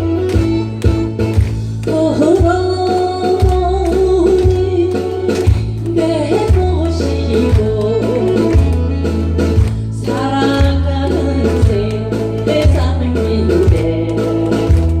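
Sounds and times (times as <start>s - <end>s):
bass beat and guitar: 0.0s - 15.0s
person singing: 1.9s - 15.0s.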